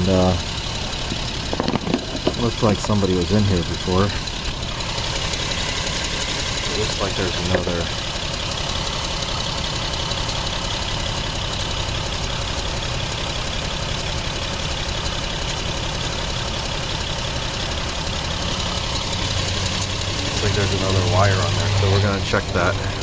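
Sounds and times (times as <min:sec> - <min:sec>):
car engine idling with misfire: 0:00.0 - 0:23.0.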